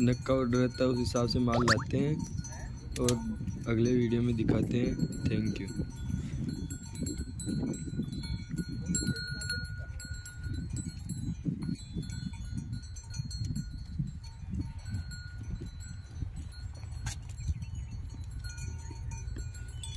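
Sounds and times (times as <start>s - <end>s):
faint bell-like ringing: 0.0s - 19.9s.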